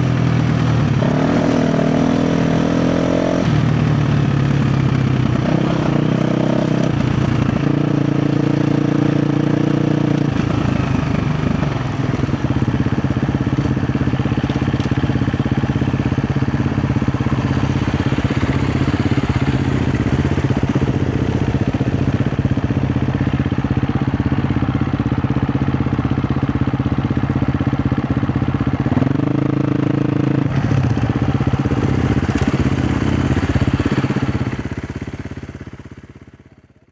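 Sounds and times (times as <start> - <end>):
dirt bike engine running: 0.0 - 36.9.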